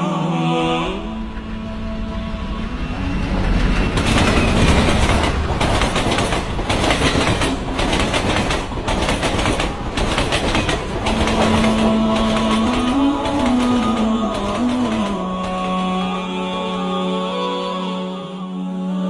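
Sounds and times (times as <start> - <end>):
train wheels clattering on rails: 1.0 - 17.2.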